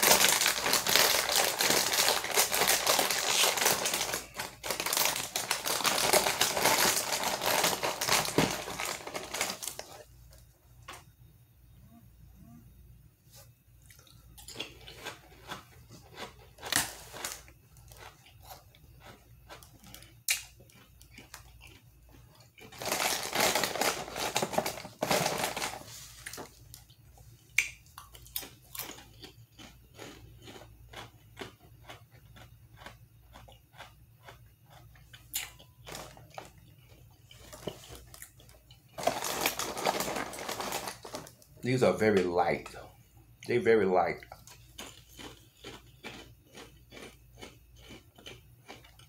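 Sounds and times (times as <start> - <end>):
crunching crisp crackers: 0.0 - 11.1, 13.8 - 49.0.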